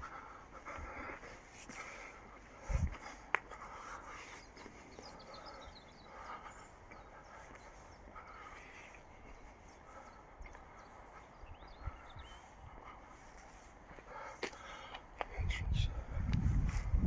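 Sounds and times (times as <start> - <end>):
small birds chirping: 0.0 - 16.6.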